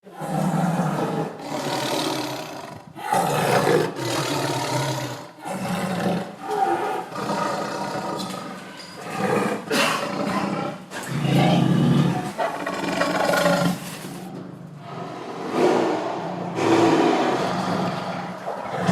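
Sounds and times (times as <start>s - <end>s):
tiger roaring: 0.0s - 18.9s.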